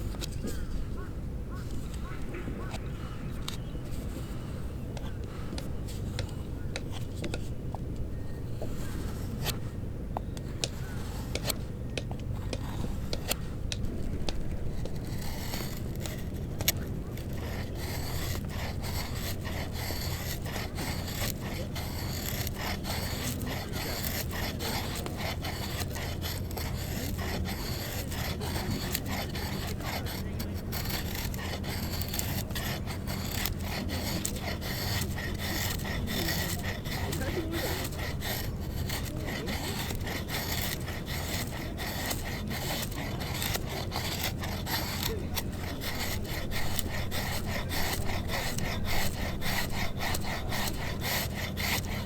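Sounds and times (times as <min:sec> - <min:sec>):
tool scraping wood: 0:00.0 - 0:52.0.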